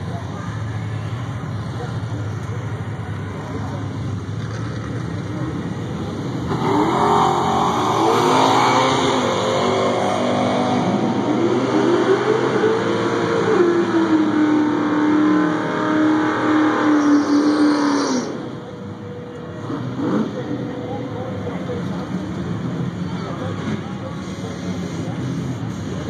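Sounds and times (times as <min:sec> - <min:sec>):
drag car engine revving: 0:01.6 - 0:26.0.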